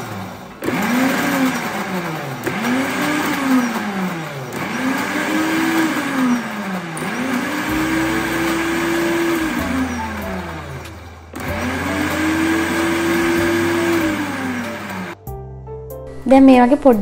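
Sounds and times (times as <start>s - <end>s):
blender motor pulsing: 0.0s - 15.2s.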